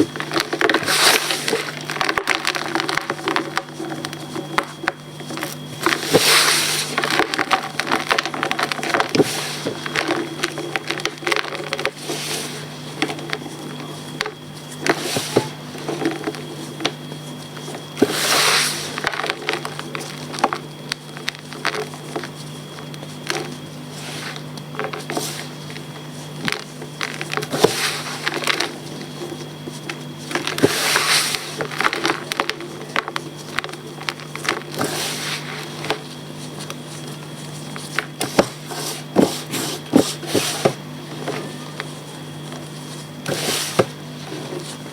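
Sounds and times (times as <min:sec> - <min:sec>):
crunching crumbles: 0:00.0 - 0:44.9
steady low hum: 0:00.0 - 0:44.9
chalk crumbling and crackling: 0:00.1 - 0:44.9.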